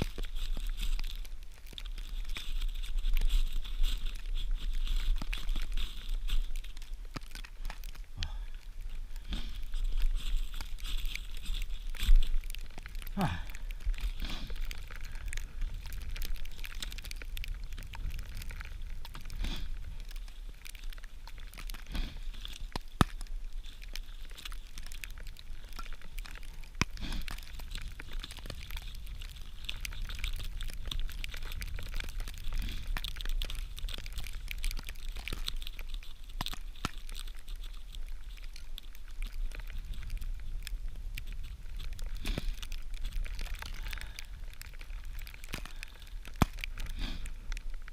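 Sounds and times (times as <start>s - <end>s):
tinder crumpling and crunching: 0.0s - 47.9s.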